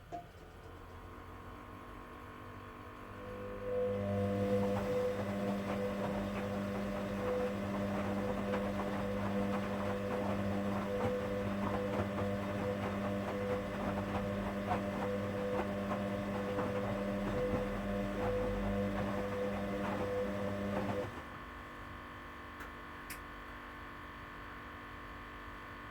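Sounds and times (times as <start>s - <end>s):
washing machine motor hum: 0.6s - 23.2s.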